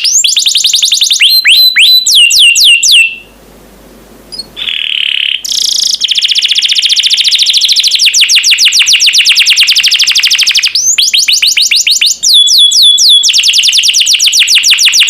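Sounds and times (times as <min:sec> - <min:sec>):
canary singing trills: 0:00.0 - 0:03.4, 0:04.3 - 0:15.0.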